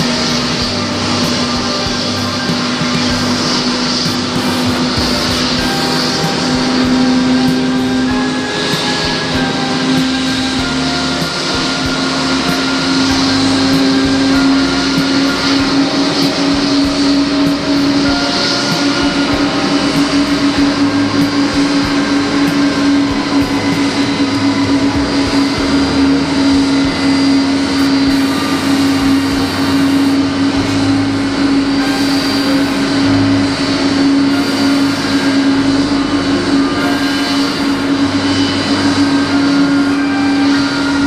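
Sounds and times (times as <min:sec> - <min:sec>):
jet airliner engine hum: 0:00.0 - 0:41.0.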